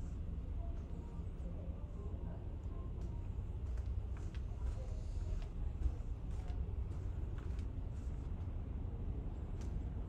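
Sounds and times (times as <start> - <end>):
ferry engine low rumble: 0.0 - 10.0.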